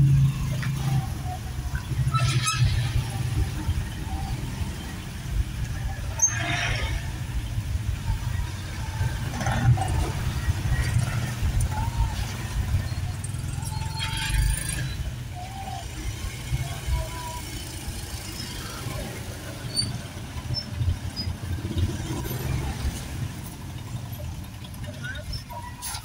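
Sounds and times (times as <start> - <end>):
motorcycle engines idling and revving: 0.0 - 26.0.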